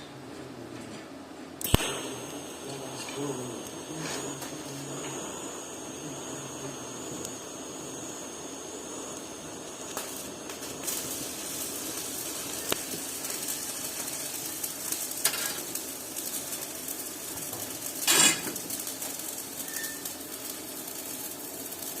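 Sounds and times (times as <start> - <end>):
welding arc sizzling: 1.6 - 22.0.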